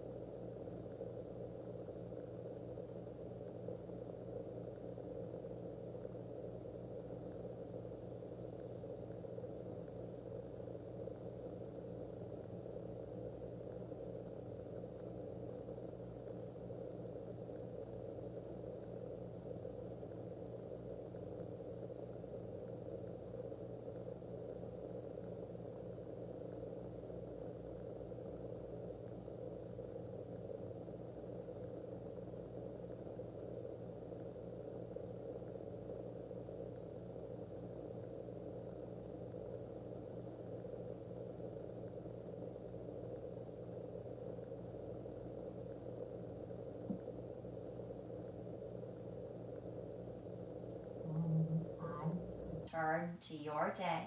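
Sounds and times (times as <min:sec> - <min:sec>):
faint hiss: 0:00.0 - 0:54.0
steady low hum: 0:00.0 - 0:54.0.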